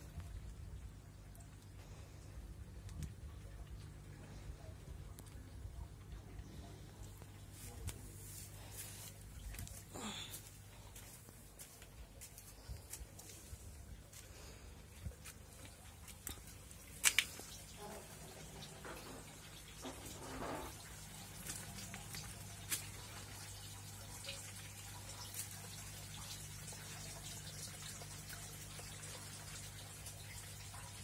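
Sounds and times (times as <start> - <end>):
pump electric hum: 0.0 - 31.0
water trickling and dripping: 0.0 - 31.0.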